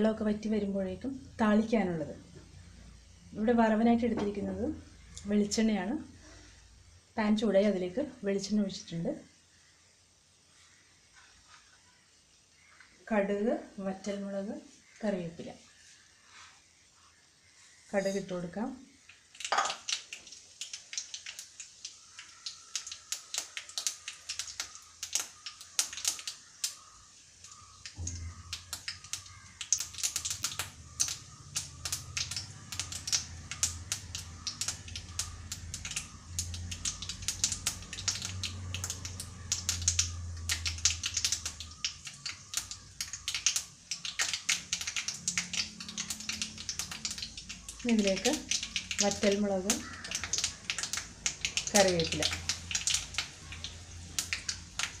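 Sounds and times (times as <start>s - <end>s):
seeds sizzling and popping in oil: 0.0s - 55.0s.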